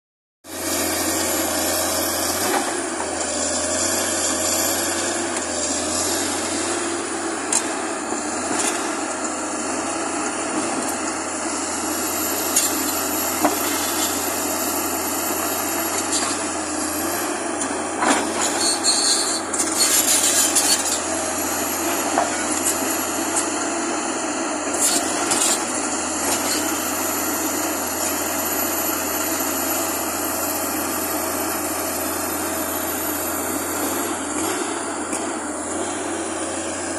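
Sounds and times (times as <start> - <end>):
excavator engine running: 0.5 - 36.9.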